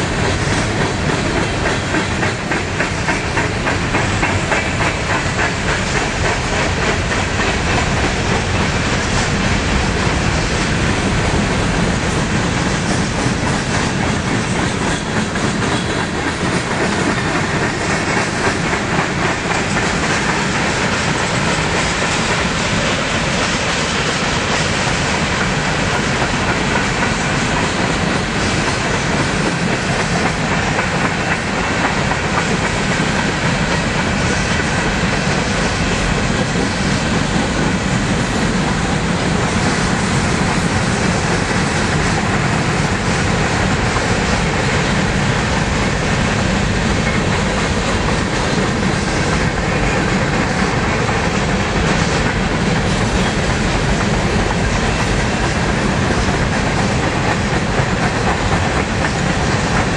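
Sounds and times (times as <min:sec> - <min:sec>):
freight train wheels on rails: 0:00.0 - 0:59.9
wheels clicking over rail joints: 0:00.0 - 0:59.9.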